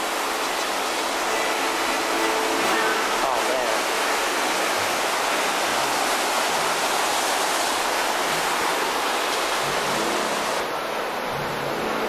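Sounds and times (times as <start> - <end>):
whitewater rushing over rock: 0.0 - 12.0.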